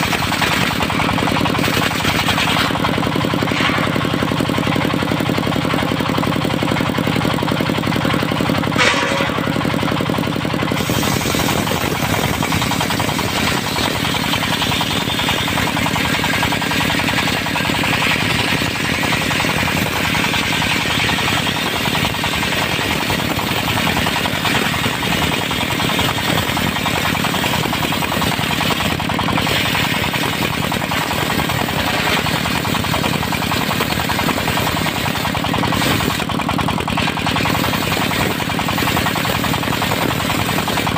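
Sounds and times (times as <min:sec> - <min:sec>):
saw blade cutting wood: 0:00.0 - 0:05.9, 0:08.0 - 0:40.9
diesel sawmill engine running: 0:00.0 - 0:40.9.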